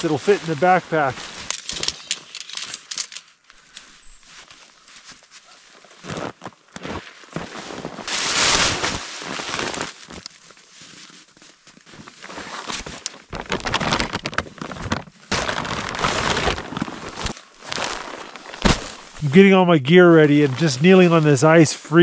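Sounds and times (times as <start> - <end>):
crunching in snow: 0.0 - 2.1, 3.6 - 22.0
nylon bag rustling: 0.0 - 19.5, 20.3 - 22.0.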